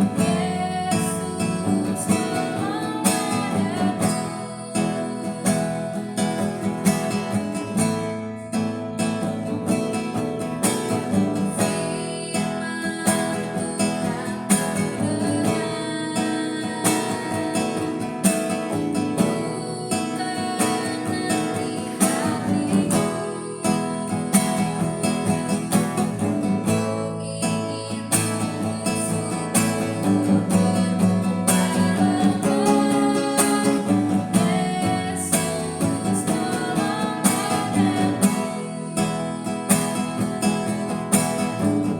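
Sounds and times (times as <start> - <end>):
strummed acoustic guitar music: 0.0 - 41.9.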